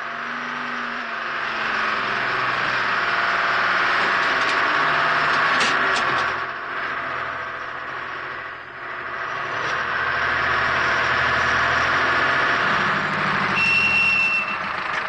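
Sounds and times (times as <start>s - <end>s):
diesel truck engine driving: 0.0s - 15.0s.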